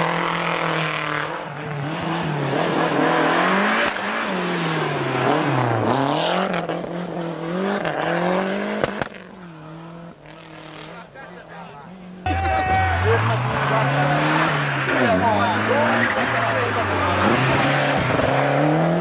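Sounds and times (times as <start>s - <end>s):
rally car engine at racing speed: 0.0s - 19.0s.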